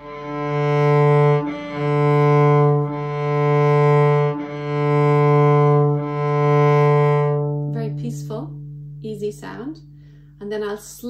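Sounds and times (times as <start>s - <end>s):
cello string bowed: 0.0s - 10.9s.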